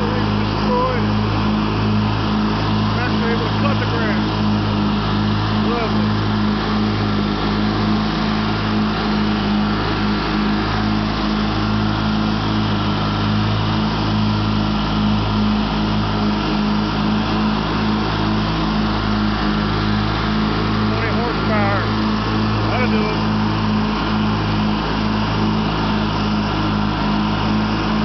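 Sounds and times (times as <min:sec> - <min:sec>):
riding lawn mower engine running: 0:00.0 - 0:28.0.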